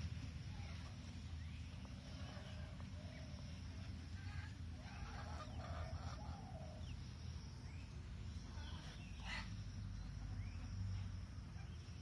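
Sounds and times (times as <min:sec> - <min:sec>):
birds chirping and clucking: 0:00.2 - 0:10.7.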